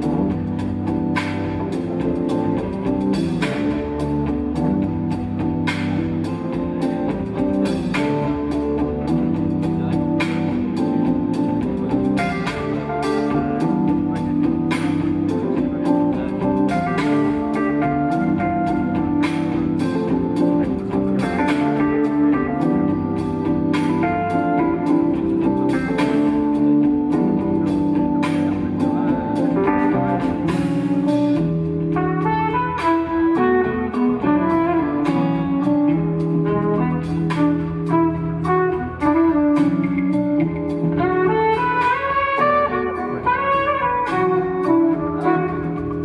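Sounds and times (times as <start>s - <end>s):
jazz fusion band playing: 0.0s - 46.0s.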